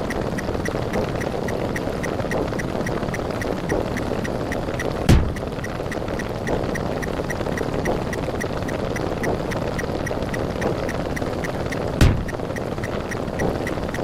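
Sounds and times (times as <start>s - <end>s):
rapid even ticking: 0.0s - 14.0s.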